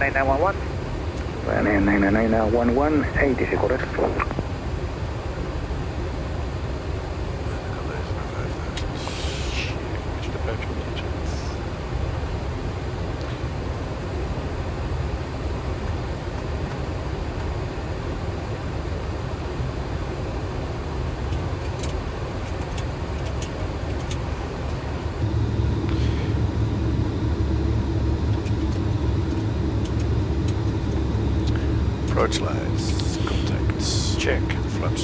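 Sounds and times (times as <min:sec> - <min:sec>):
aircraft engine hum: 0:00.0 - 0:35.0.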